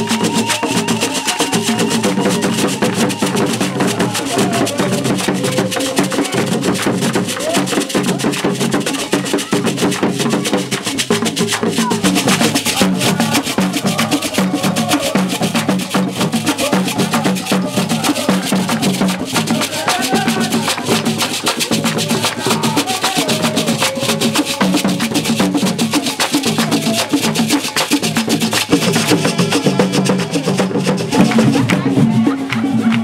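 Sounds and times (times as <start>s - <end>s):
gourd rattle shaking: 0.0s - 29.7s
wooden hand drums: 0.0s - 33.0s.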